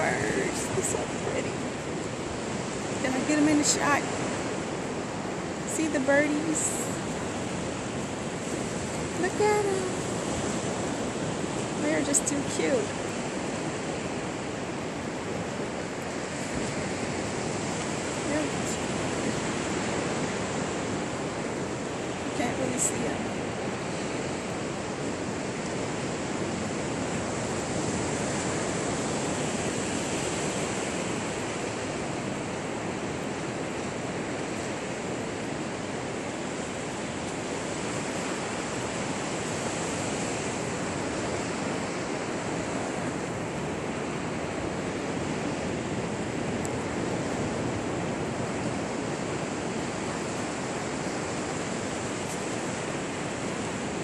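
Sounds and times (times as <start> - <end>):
ocean surf on beach: 0.0 - 54.0.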